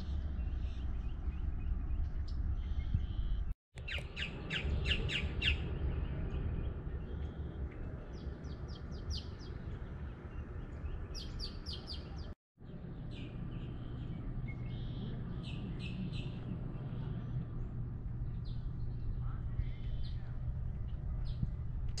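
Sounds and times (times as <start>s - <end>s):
birds chirping rapidly: 0.0s - 21.7s
low background rumble: 0.0s - 22.0s.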